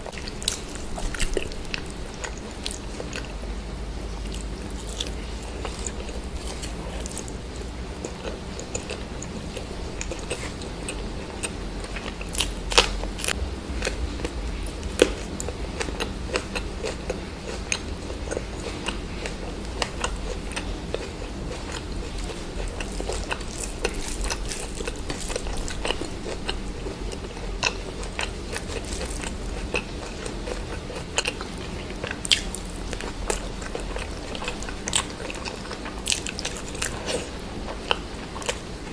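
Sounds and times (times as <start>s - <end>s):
food crunching: 0.0s - 38.9s
person chewing food: 0.0s - 38.9s.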